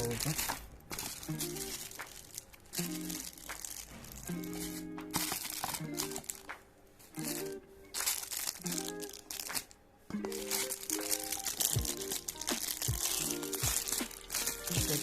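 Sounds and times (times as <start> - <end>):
plastic packaging crinkling: 0.0 - 15.0
soft repeating music chords: 0.0 - 15.0.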